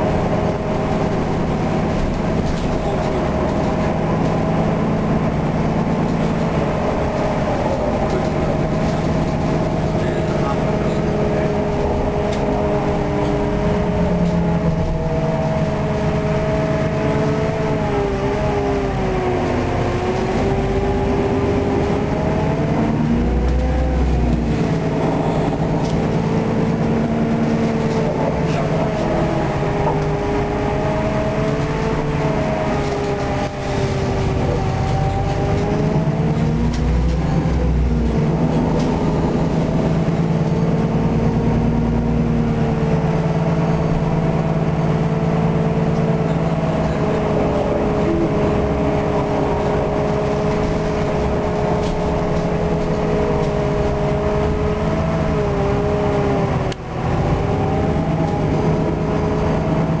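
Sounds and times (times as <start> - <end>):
bus drivetrain hum with whining: 0.0 - 60.0
low road rumble: 0.0 - 60.0.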